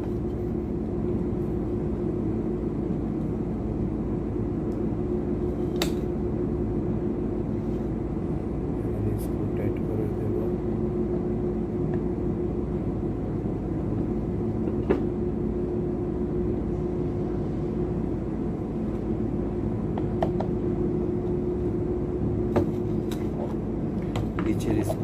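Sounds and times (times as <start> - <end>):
constant hum: 0.0 - 25.0
low background rumble: 0.0 - 25.0.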